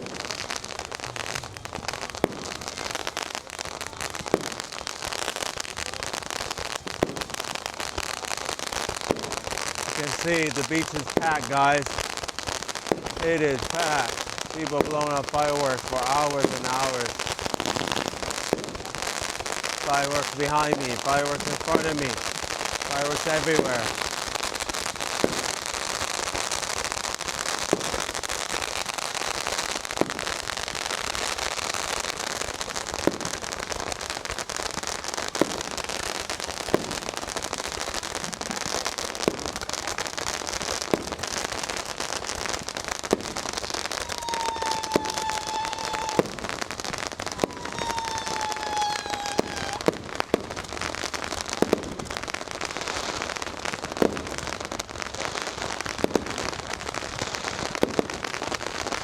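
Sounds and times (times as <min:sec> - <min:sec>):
fireworks crackling and banging: 0:00.0 - 0:59.0
whistling fireworks: 0:00.0 - 0:59.0.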